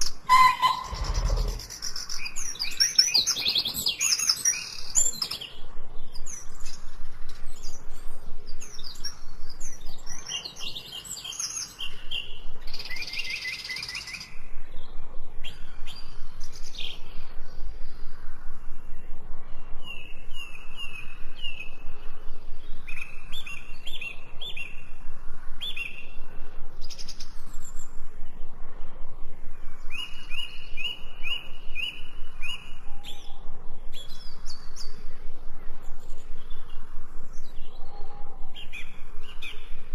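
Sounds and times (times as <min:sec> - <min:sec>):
repeated whistled bird notes: 0:00.0 - 0:25.0, 0:29.8 - 0:39.9
songbirds chirping and singing: 0:00.0 - 0:39.9.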